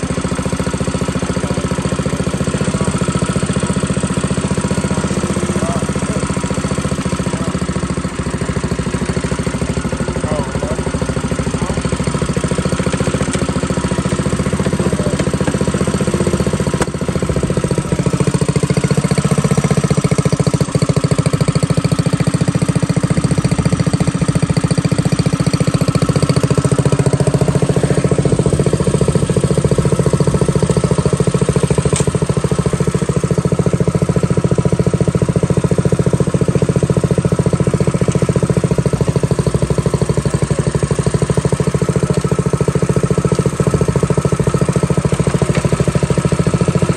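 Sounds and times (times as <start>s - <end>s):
minibike engine running: 0.0s - 46.9s.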